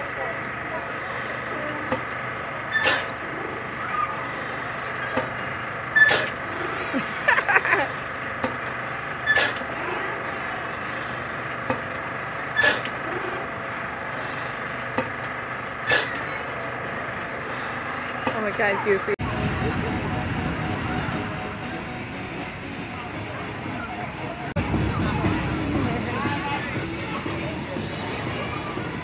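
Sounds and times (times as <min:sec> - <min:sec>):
machinery hum: 0:00.0 - 0:29.0.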